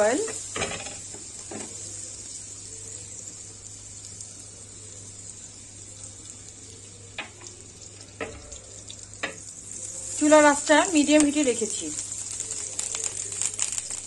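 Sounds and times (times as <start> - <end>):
butter and oil sizzling in a pan: 0.0 - 14.0.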